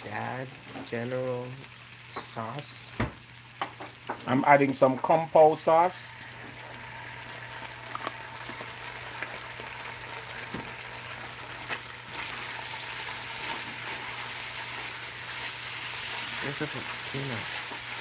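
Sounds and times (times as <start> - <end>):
chicken sizzling in a pot: 0.0 - 18.0.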